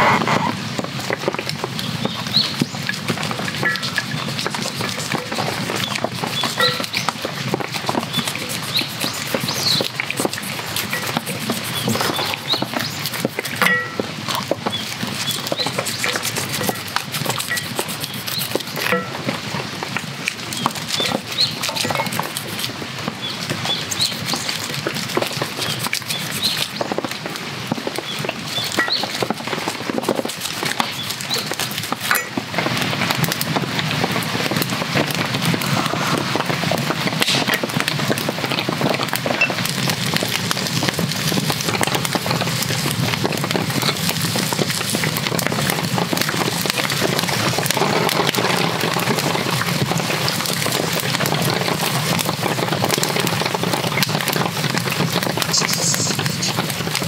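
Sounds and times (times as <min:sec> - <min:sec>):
rain pattering: 0:00.0 - 0:57.0
wood fire crackling: 0:00.0 - 0:57.0.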